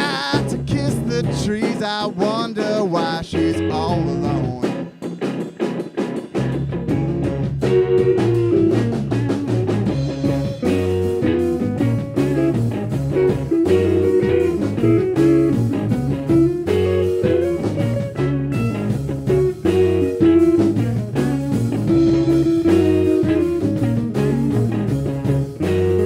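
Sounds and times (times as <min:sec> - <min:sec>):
bass notes: 0:00.0 - 0:01.8, 0:03.3 - 0:04.8, 0:06.4 - 0:26.0
drums: 0:00.0 - 0:26.0
guitar line: 0:00.0 - 0:26.0.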